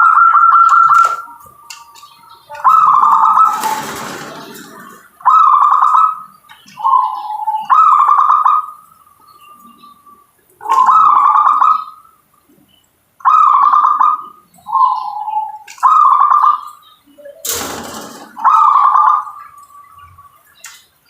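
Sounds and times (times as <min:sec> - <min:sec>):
dove cooing: 0:00.0 - 0:12.2, 0:13.2 - 0:20.3.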